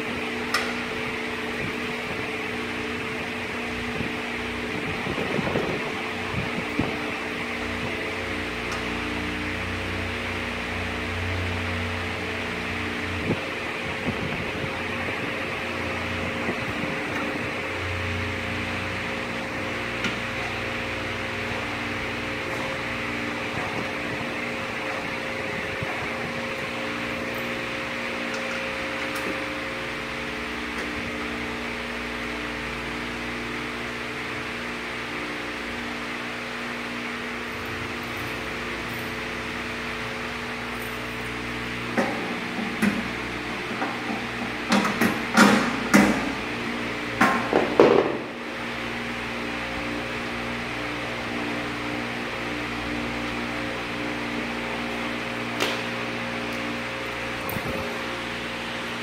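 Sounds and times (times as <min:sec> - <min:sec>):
electric fan humming: 0:00.0 - 0:59.0.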